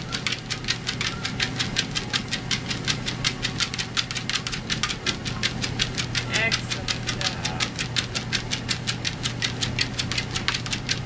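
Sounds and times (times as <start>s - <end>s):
dog paws tapping treadmill belt: 0.0s - 11.0s
treadmill motor hum: 0.0s - 11.0s.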